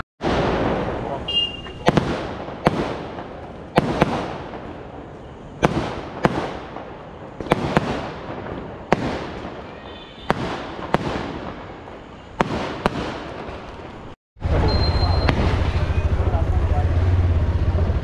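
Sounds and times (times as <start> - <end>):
firecracker bangs with echo: 0.2 - 13.8, 14.4 - 16.1.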